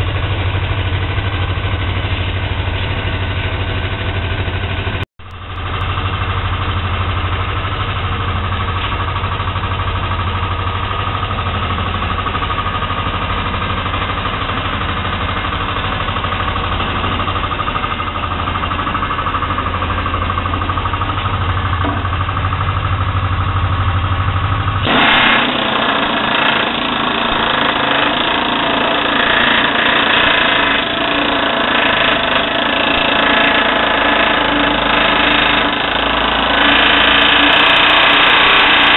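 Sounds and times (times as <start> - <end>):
pneumatic air hammer hammering: 0.0 - 23.1, 24.7 - 38.9
low machine hum: 0.0 - 38.9.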